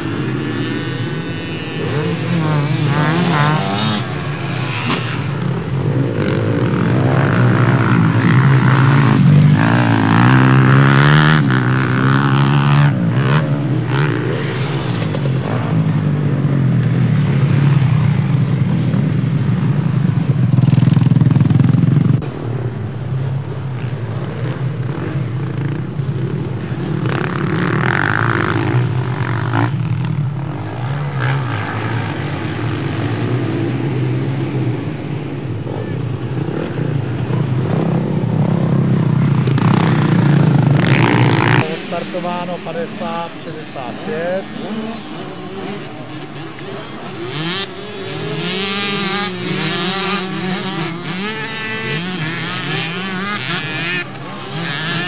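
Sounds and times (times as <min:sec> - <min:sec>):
motocross engines revving: 0:00.0 - 0:55.0.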